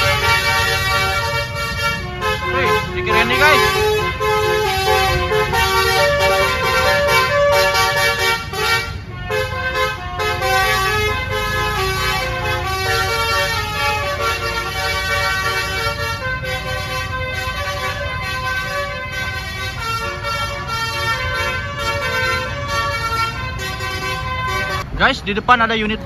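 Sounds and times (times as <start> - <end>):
bus horn playing a melody: 0.0 - 24.9
bus engine rumble: 0.0 - 26.0.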